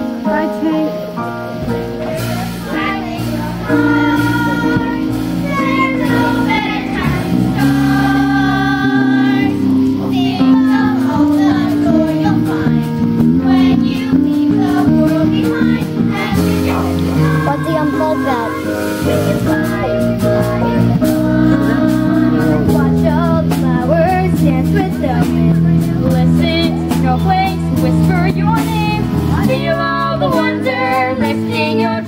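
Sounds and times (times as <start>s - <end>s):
instrumental accompaniment: 0.0s - 32.0s
children singing together: 1.7s - 25.4s, 26.3s - 32.0s.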